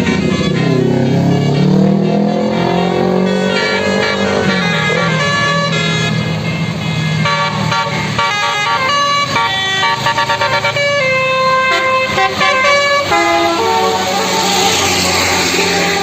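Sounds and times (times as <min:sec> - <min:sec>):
bus engine running: 0:00.0 - 0:16.0
multi-tone air horn tune: 0:00.0 - 0:16.0.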